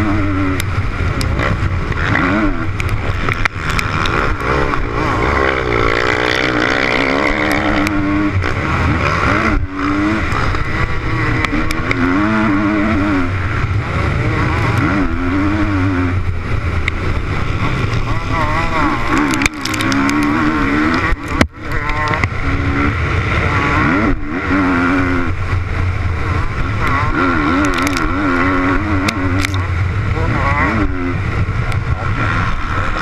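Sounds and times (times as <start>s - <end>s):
motocross bike engine revving: 0.0s - 33.0s.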